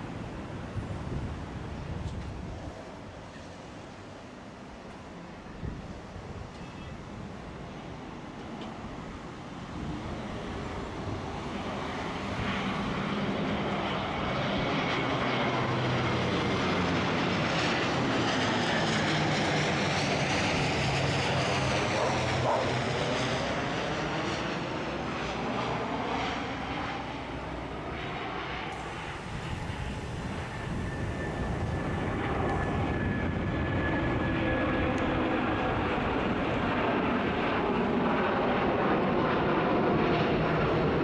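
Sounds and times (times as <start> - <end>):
propeller airliner passing overhead: 0.0 - 41.0.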